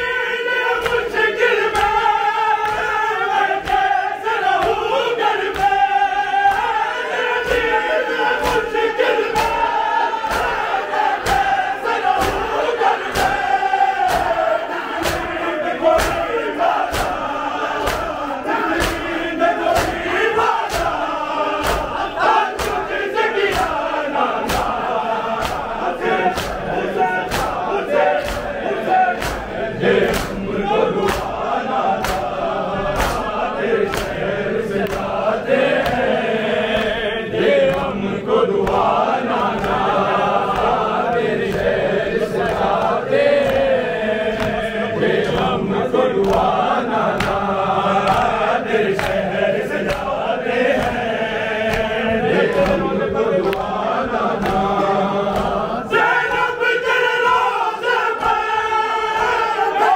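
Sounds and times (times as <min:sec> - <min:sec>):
men chanting in unison: 0:00.0 - 0:59.9
hands slapping bare chests: 0:00.8 - 0:06.8, 0:08.4 - 0:45.6, 0:46.2 - 0:55.8.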